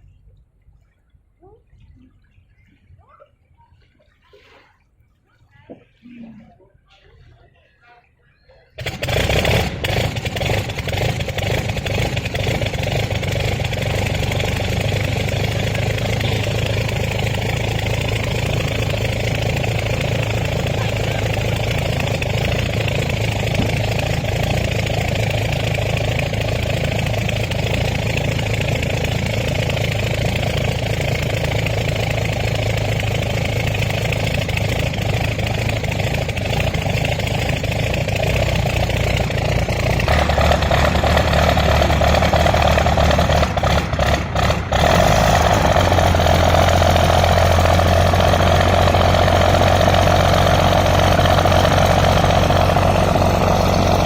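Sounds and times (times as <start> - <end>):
engine running: 8.7 - 54.0.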